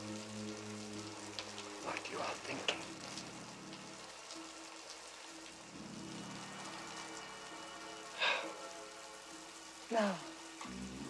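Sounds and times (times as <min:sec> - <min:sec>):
low music drone: 0:00.0 - 0:11.0
steady rain falling: 0:00.0 - 0:11.0.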